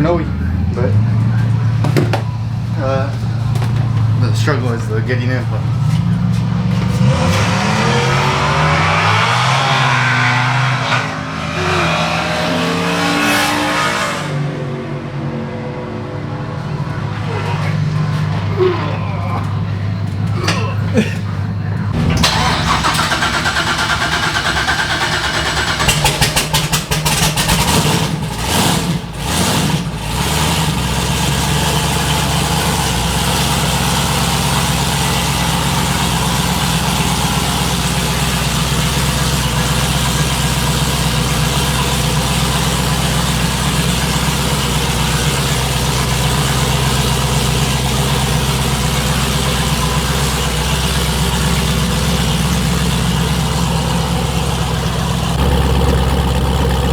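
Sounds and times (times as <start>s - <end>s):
car engine idling roughly: 0.0s - 9.6s, 16.4s - 56.9s.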